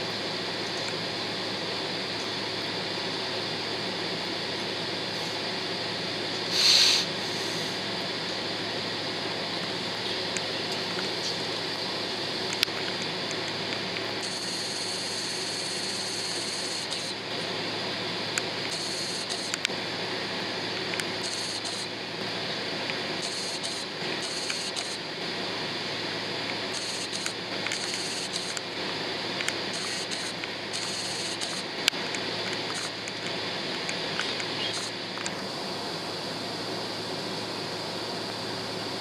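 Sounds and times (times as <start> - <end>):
high hiss: 0.0 - 39.0
jet cabin engine hum: 0.0 - 39.0.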